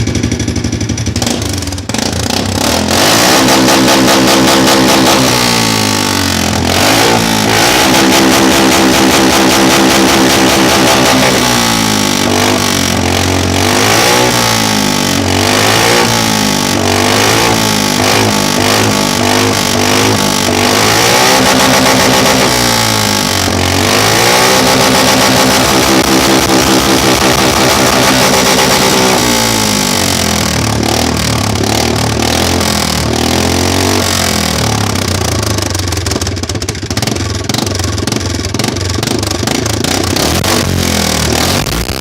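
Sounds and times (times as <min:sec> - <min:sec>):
quad bike engine revving: 0:00.0 - 0:42.0.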